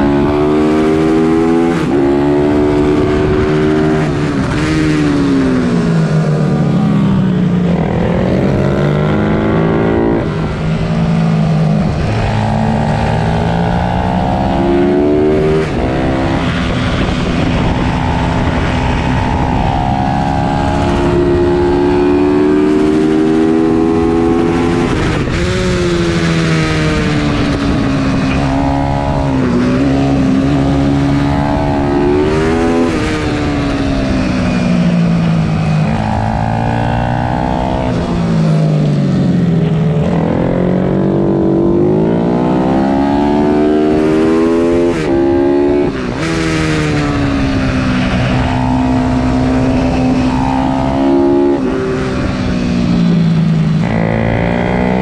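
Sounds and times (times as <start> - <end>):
motorbike engine revving: 0.0 - 55.0
wind rush: 0.0 - 55.0.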